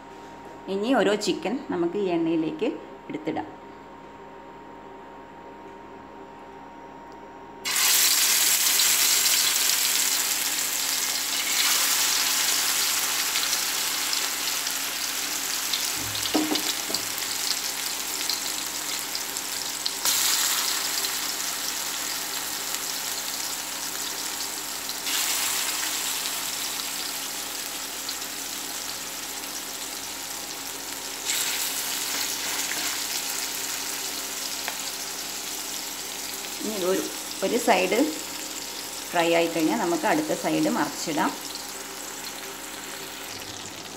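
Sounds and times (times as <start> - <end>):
chicken sizzling in hot oil: 7.6 - 43.9.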